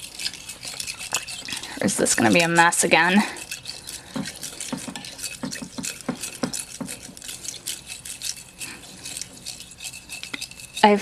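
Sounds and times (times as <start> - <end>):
spoon stirring slime: 0.0 - 11.0.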